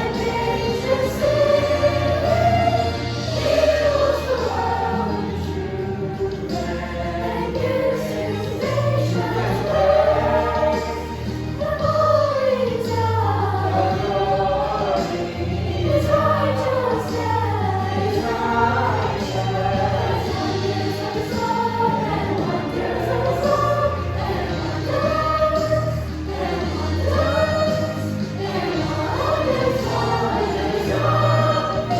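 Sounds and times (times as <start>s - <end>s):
choir singing: 0.0s - 31.9s.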